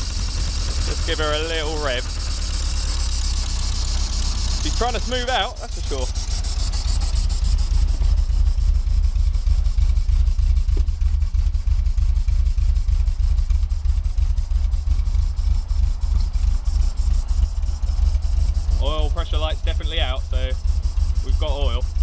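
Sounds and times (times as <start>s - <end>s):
car engine idling unevenly: 0.0s - 22.0s
exhaust beat: 0.0s - 22.0s.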